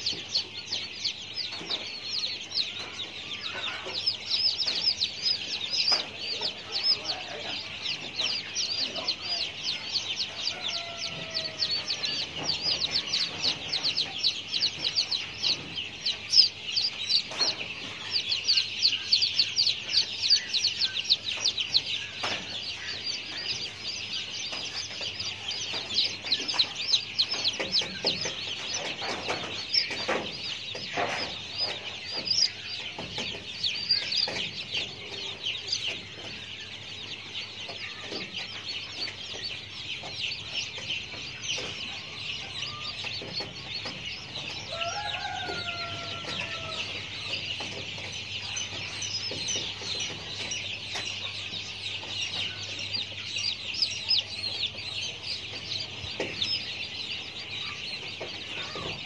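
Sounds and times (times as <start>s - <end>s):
dense chorus of birds chirping: 0.0s - 59.0s.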